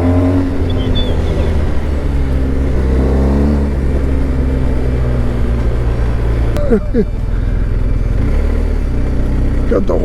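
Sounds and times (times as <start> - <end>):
motorcycle engine shifting gears: 0.0 - 10.0.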